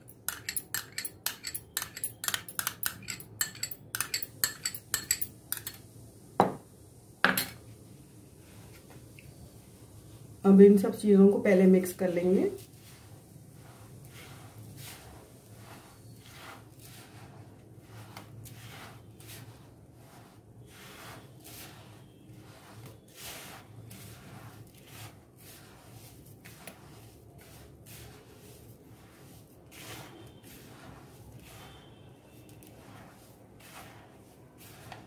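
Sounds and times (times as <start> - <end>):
hands rubbing flour in bowl: 0.0 - 5.8, 11.2 - 35.0.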